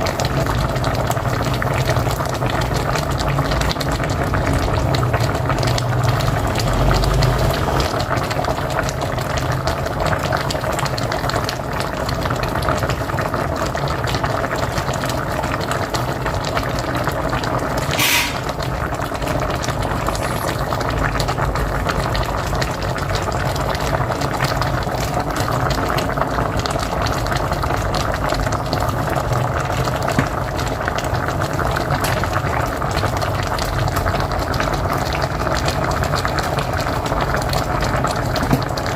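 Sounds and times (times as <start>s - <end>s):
pot of stew bubbling: 0.0s - 38.9s.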